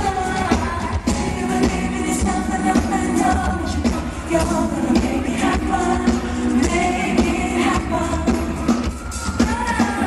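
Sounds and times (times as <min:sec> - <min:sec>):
pop band playing: 0:00.0 - 0:10.0
woman singing into microphone: 0:00.0 - 0:10.0.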